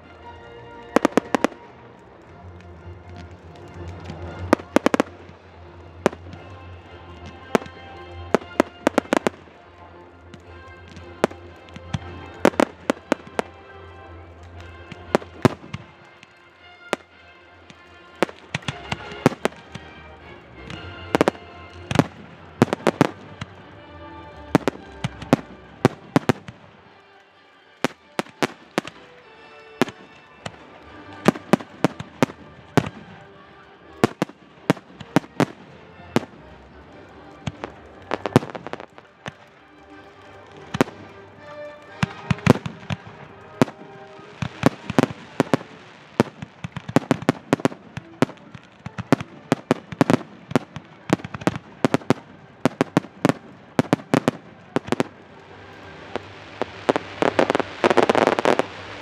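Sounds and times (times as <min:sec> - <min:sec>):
music playing: 0:00.0 - 0:59.0
fireworks bursting: 0:00.8 - 0:59.0.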